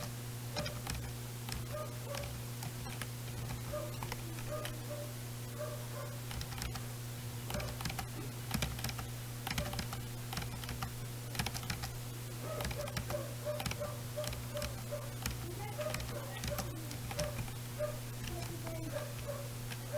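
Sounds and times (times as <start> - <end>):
keyboard key clicks: 0.0 - 4.8, 6.3 - 6.8, 7.5 - 12.0, 12.6 - 17.6, 18.2 - 19.8
steady low hum: 0.0 - 19.9.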